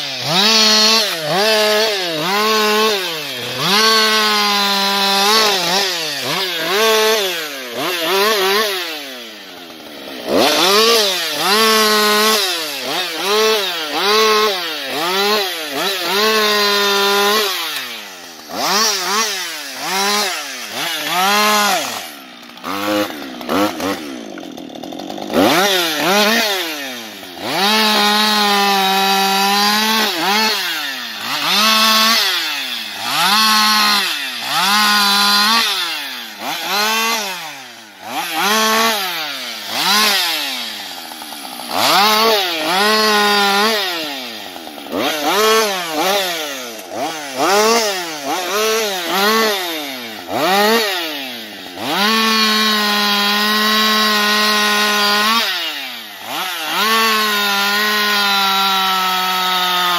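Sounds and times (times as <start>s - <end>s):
chainsaw revving while cutting wood: 0.0s - 59.9s.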